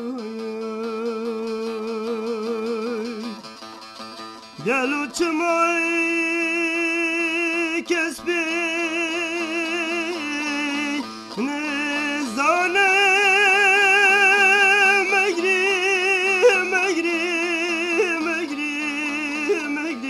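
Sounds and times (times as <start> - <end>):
solo voice singing with vibrato: 0.0 - 3.4, 4.6 - 20.0.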